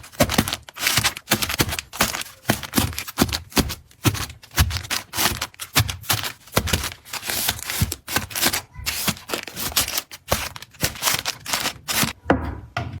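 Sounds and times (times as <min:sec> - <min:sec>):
packaging being handled: 0:00.0 - 0:12.2.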